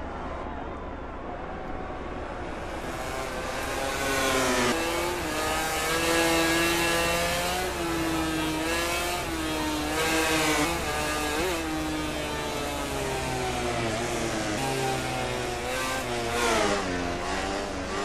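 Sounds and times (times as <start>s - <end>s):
racing motorcycle engine revving: 2.4s - 18.0s.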